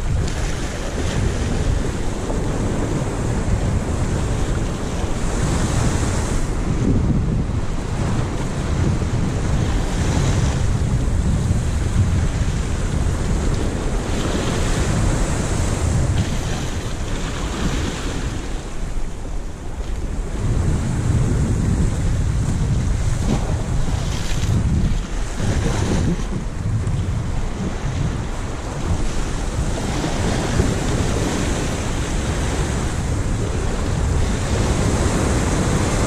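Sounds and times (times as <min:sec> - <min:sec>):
surf breaking over rocks: 0:00.0 - 0:36.0
wind buffeting microphone: 0:00.0 - 0:36.0.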